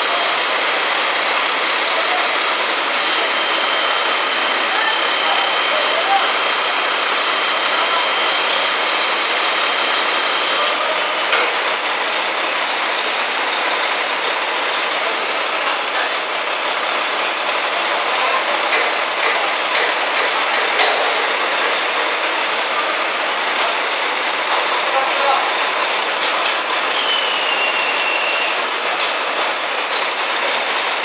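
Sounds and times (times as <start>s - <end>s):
truck engine and crane hydraulics: 0.0s - 31.0s.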